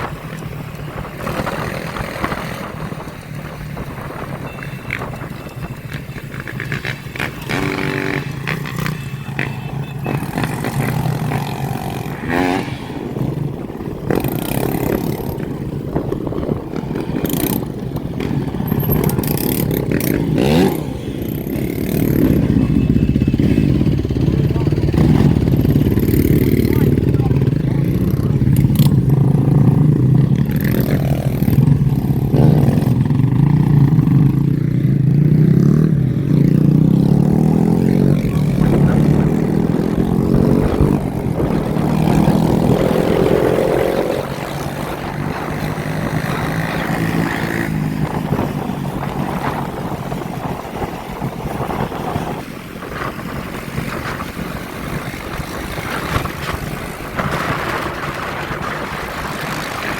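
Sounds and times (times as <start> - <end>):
motorbike engines revving: 0.0 - 59.9.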